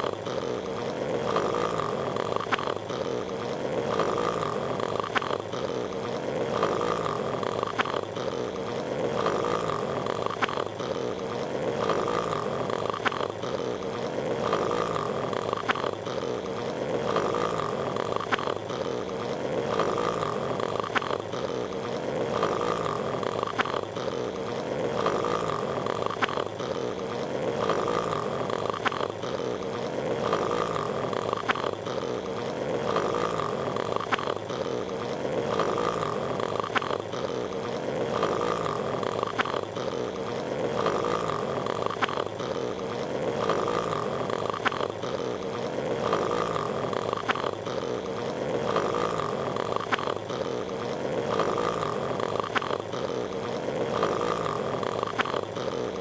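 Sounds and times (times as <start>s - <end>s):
cartoon snoring: 0.0s - 56.0s.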